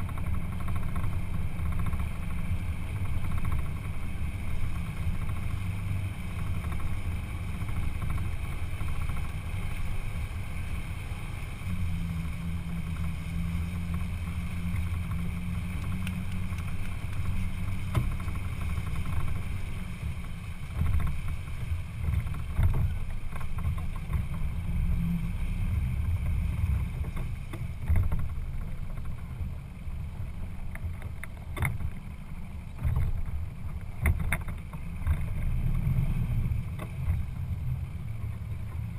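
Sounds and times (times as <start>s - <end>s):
boat engine low rumble: 0.0s - 38.9s.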